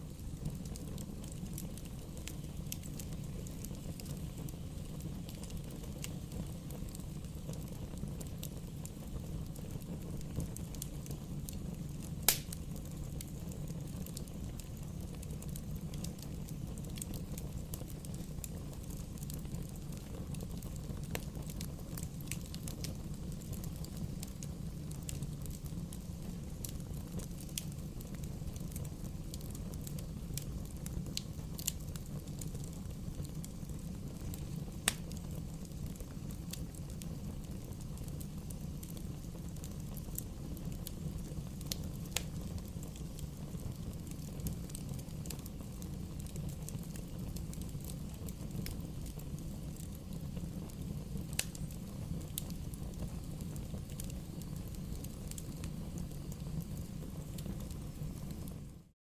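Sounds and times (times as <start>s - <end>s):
bonfire flames rumbling: 0.0s - 58.9s
fire crackles and pops: 0.0s - 58.9s.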